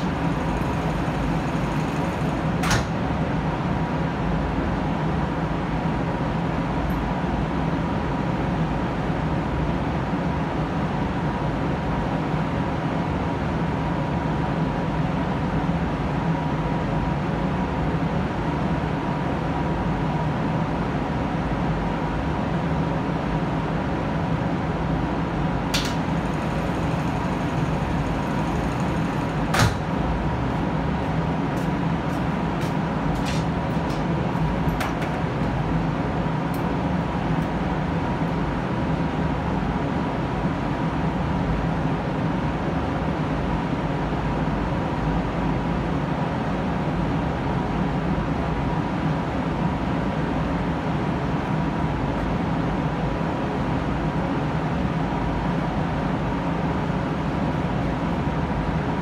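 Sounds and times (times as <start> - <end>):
faint hum: 0.0 - 59.0
ventilation fans droning: 0.0 - 59.0.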